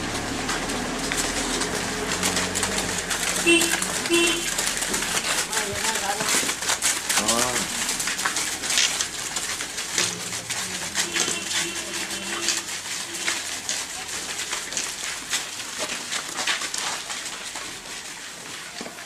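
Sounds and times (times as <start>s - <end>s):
small clicks and rustling: 0.0s - 19.0s.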